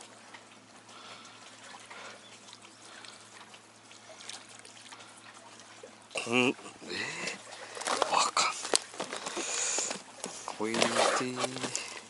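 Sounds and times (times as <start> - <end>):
light rain hiss: 0.0 - 10.7
trickling water: 0.0 - 12.0.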